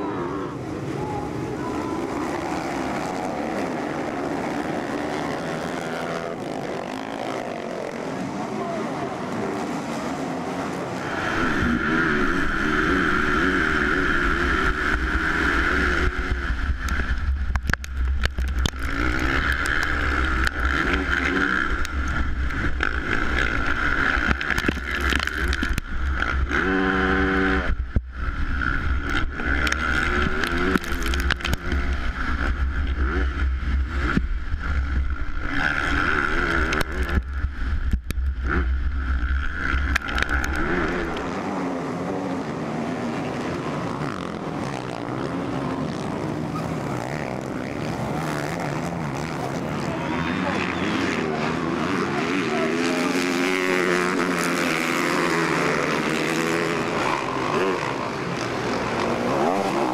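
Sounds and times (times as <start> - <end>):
motocross bike engine running hard: 0.0 - 59.9.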